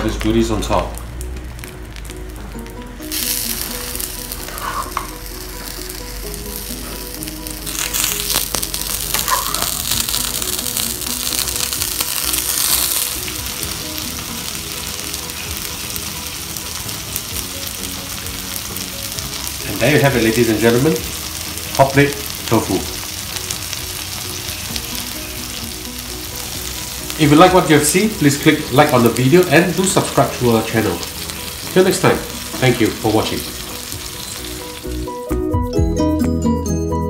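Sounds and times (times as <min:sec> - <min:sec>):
food sizzling on hotplate: 0:00.0 - 0:35.2
faint background music: 0:00.0 - 0:36.2.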